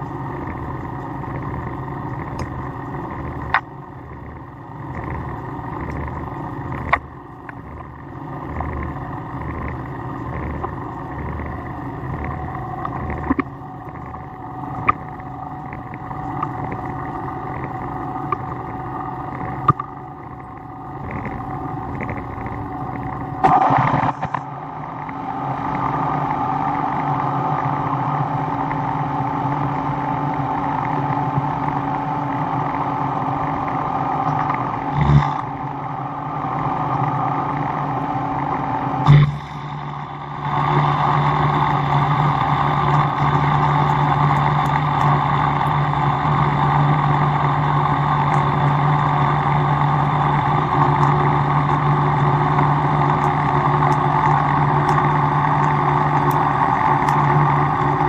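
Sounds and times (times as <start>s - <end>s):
shop machine motor droning: 0.0s - 58.0s.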